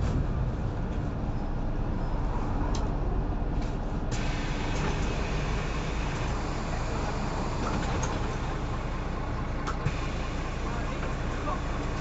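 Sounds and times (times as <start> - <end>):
bus diesel engine hum: 0.0 - 12.0
road and tyre noise: 0.0 - 12.0.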